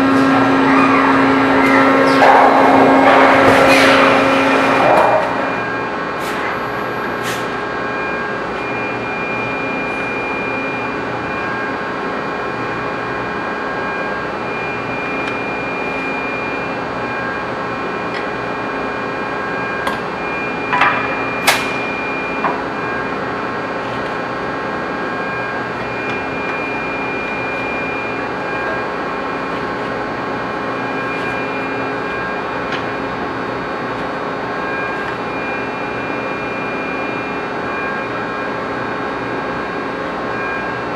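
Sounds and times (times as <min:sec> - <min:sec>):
high machine tones: 0:00.0 - 0:40.9
metal-forming machinery humming: 0:00.0 - 0:40.9.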